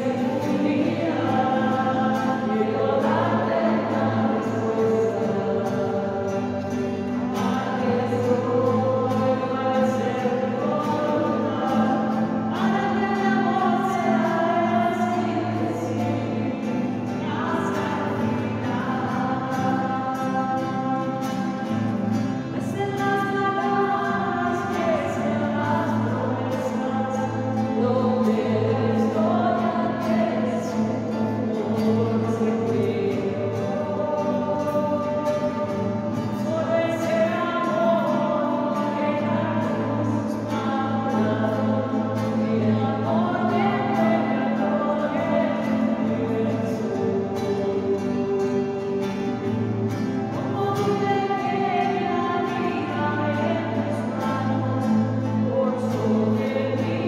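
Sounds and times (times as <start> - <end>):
voices singing slow religious song: 0.0 - 57.0.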